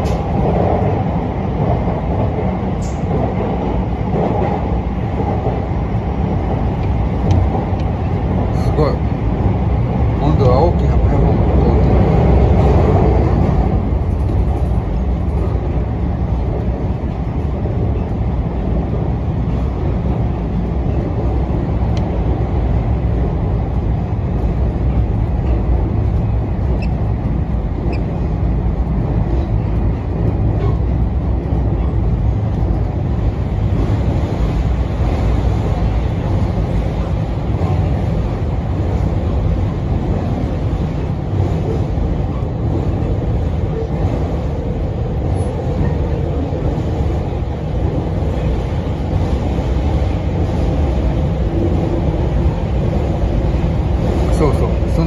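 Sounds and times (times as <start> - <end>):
train passing alongside: 0.0 - 55.0
train wheels rumbling on rail: 0.0 - 55.0.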